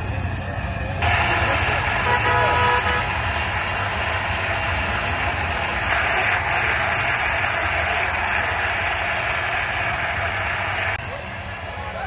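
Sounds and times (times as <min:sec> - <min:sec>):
electric blender whirring: 0:01.0 - 0:11.0.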